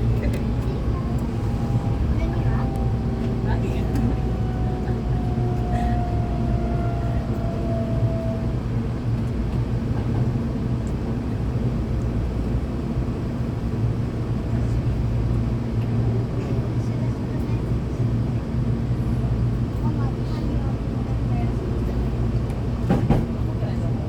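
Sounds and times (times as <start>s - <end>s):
train wheels and motors rumbling: 0.0s - 24.0s.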